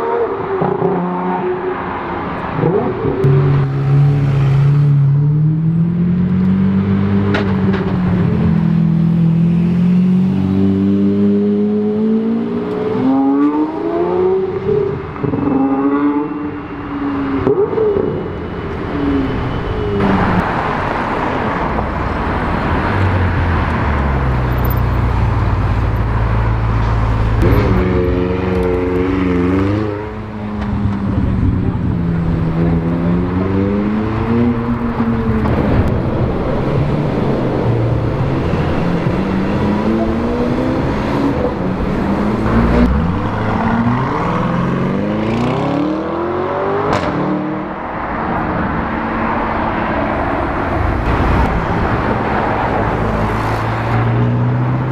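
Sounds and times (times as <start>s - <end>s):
car engines revving and accelerating: 0.0s - 54.9s
road noise: 0.0s - 54.9s.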